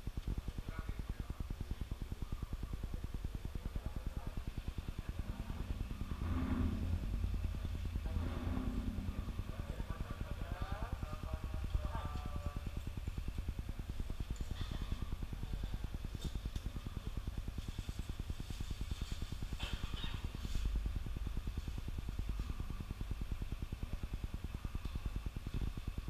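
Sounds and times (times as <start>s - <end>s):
pulsing low machine hum: 0.0s - 26.0s.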